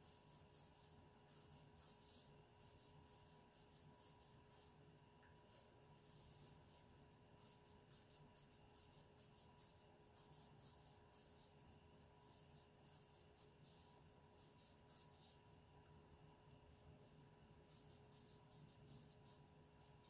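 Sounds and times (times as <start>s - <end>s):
paintbrush brushing on paper: 0.0s - 15.6s, 16.6s - 20.0s
faint steady hum: 0.0s - 20.0s.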